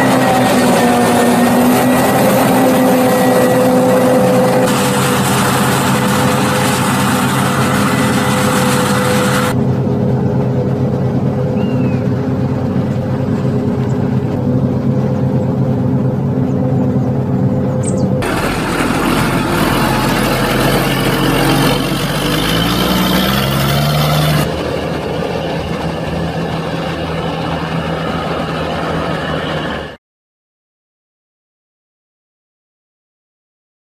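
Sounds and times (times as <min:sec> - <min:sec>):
forage harvester running: 0:00.0 - 0:30.0
tractor engine rising in pitch: 0:00.0 - 0:30.0.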